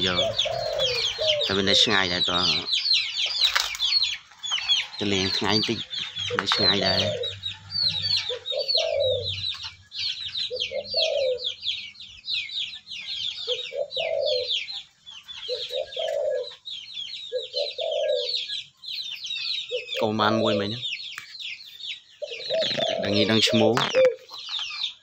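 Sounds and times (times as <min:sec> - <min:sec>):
dove cooing: 0:00.0 - 0:20.9, 0:22.1 - 0:24.5
small birds chirping: 0:00.0 - 0:25.0.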